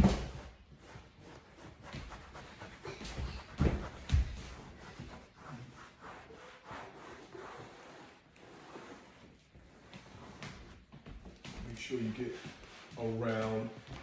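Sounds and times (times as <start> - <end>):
cloth rubbing on leather: 0.0 - 14.0.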